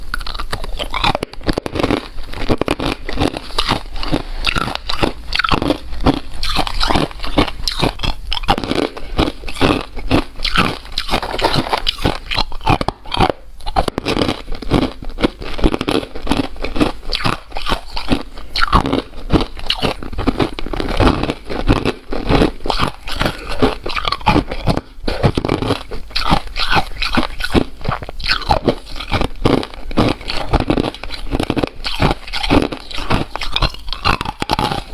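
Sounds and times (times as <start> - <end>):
person chewing crunchy ice: 0.0 - 34.9.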